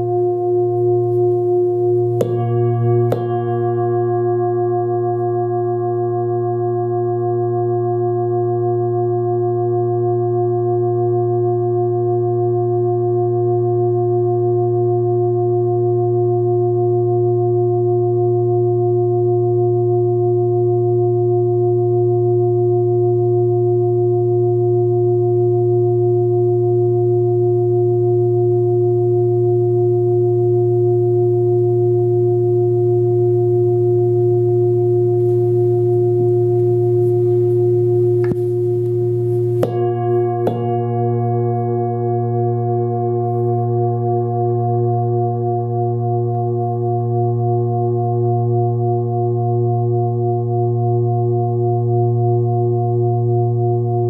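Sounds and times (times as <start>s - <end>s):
singing bowl humming: 0.0s - 54.0s.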